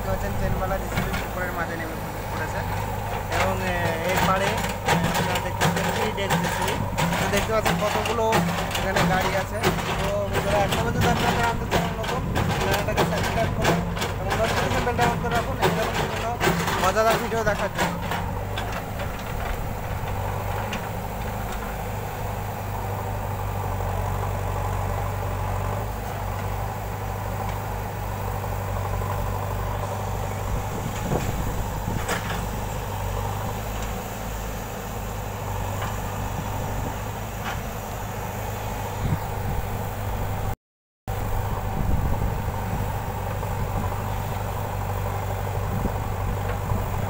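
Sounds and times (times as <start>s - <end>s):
diesel engines running: 0.0s - 47.0s.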